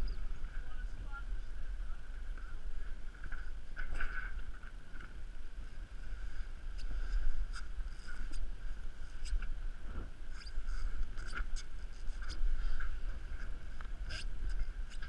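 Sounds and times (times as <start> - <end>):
faint steady whine: 0.0 - 15.0
wind buffeting camera: 0.0 - 15.0.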